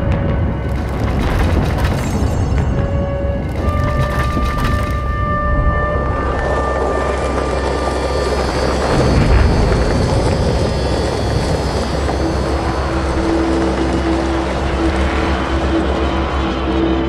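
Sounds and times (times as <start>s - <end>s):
heavy mechanical engine rumble: 0.0s - 17.0s.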